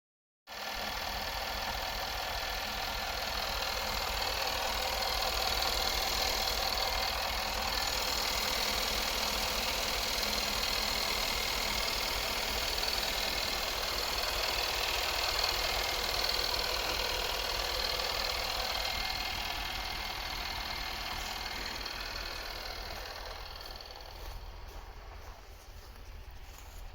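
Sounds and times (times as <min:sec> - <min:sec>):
engine running with mechanical clatter: 0:00.5 - 0:26.9.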